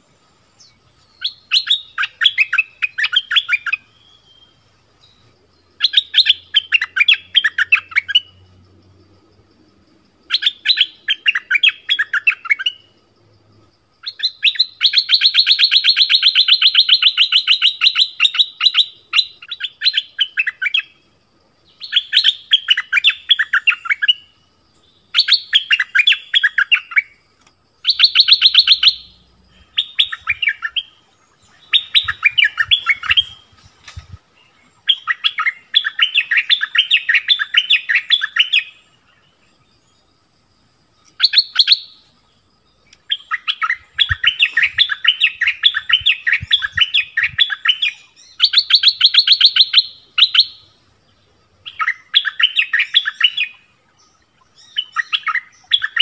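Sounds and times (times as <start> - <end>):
bird song with chattering notes: 0.0 - 8.7, 10.2 - 13.2, 14.0 - 56.0.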